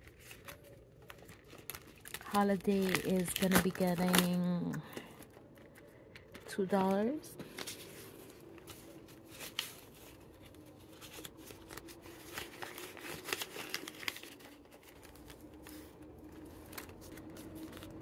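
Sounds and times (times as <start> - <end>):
vinyl pocket and paper rustling: 0.0 - 18.0.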